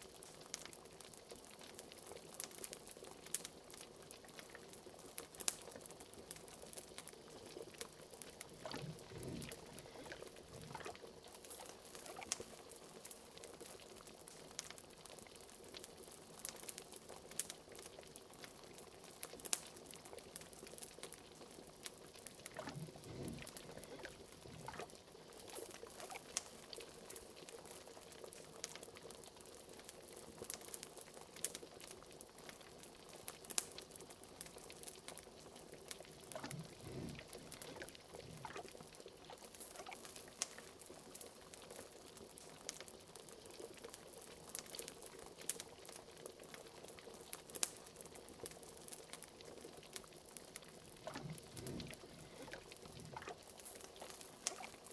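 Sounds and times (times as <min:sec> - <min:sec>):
liquid bubbling at a boil: 0:00.0 - 0:54.9.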